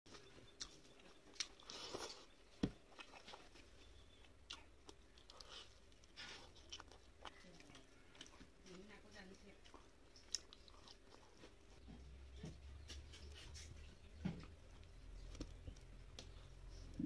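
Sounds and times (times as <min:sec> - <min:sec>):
chewing: 0:00.1 - 0:17.0
fingers squishing food: 0:00.1 - 0:17.0.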